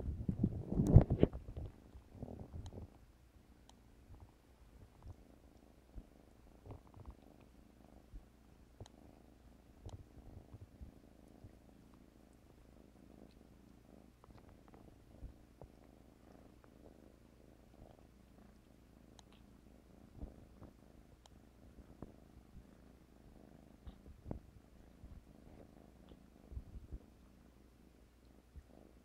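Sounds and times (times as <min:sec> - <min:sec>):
cat purring faintly: 0:00.0 - 0:29.0
soft clicks and rustles: 0:00.0 - 0:29.0.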